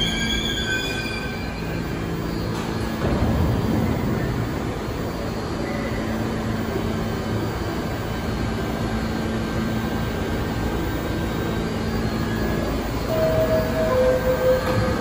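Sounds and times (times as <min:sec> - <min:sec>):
train air-conditioning hum: 0:00.0 - 0:15.0.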